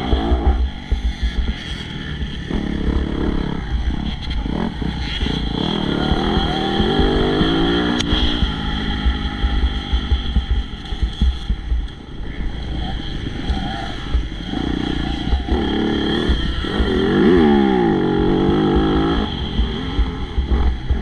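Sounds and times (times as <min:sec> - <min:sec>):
low thumps: 0:00.0 - 0:21.0
motocross bike engine revving: 0:00.0 - 0:21.0.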